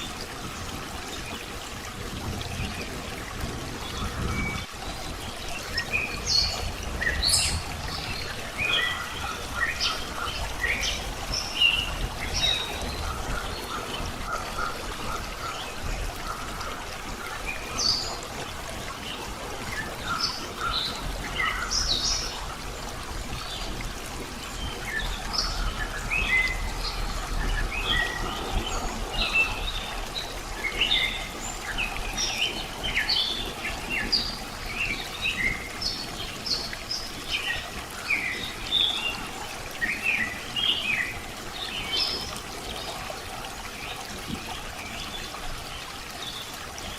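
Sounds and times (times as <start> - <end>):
water trickling: 0.0 - 46.9
birds chirping: 2.5 - 46.6.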